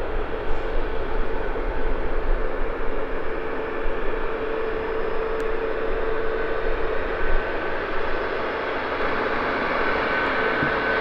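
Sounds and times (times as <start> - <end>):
higher engine whine: 0.0 - 11.0
jet engines whining: 0.0 - 11.0.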